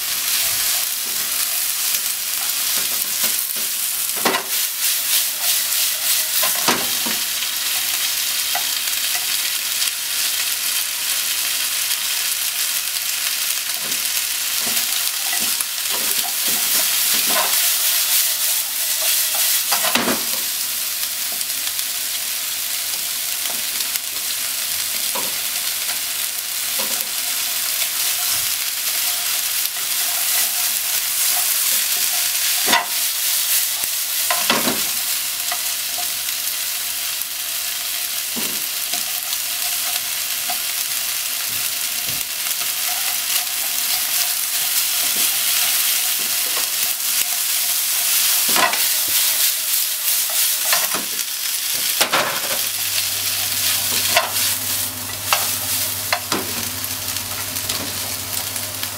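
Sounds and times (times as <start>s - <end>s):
food sizzling in frying pan: 0.0s - 58.9s.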